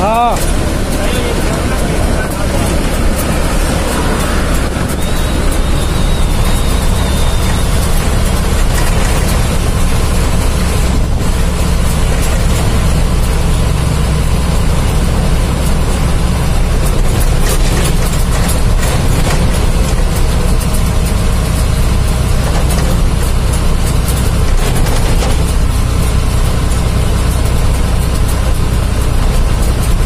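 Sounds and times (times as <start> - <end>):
road and tyre noise: 0.0 - 30.0
vehicle engine rumble: 0.0 - 30.0.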